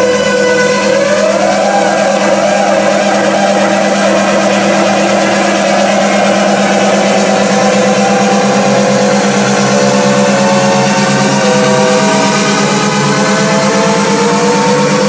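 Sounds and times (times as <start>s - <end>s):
loud electronic dance music: 0.0s - 15.0s.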